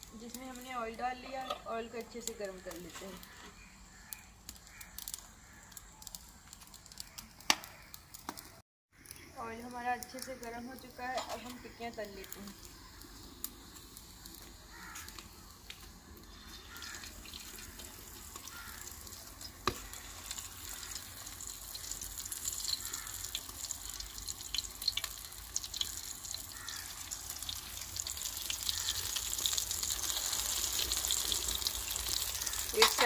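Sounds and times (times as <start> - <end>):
patties sizzling in hot oil: 0.0 - 33.0.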